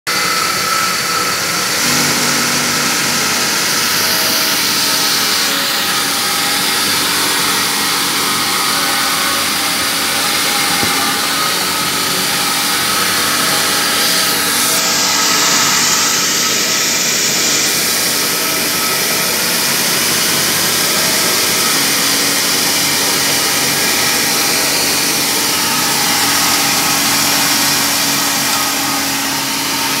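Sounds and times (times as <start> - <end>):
rice mill running: 0.1 - 30.0.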